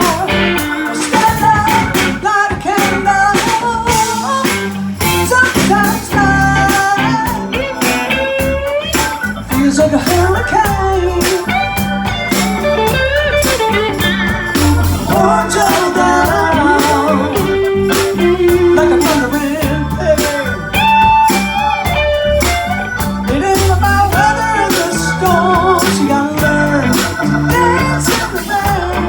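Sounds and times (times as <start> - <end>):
bass line: 0.0 - 29.0
bent sliding lead notes: 0.0 - 29.0
drum beat: 0.0 - 29.0
live blues band playing: 0.0 - 29.0.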